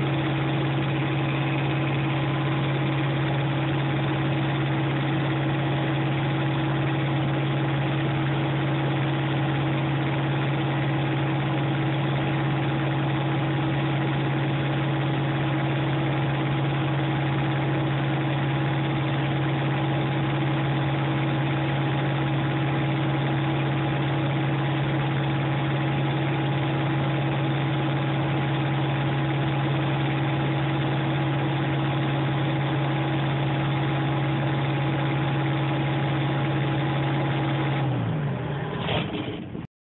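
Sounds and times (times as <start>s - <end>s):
refrigeration unit humming: 0.0s - 38.9s.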